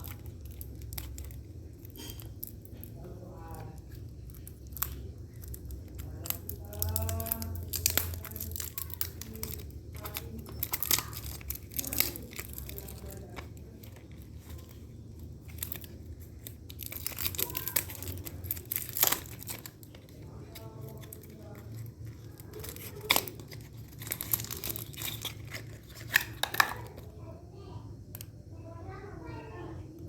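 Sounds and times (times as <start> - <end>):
packaging rustling and crinkling: 0.0 - 27.1.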